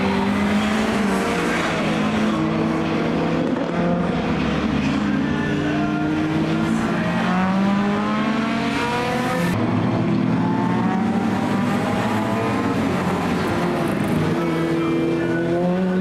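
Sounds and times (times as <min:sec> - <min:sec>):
racing car engines accelerating: 0:00.0 - 0:16.0.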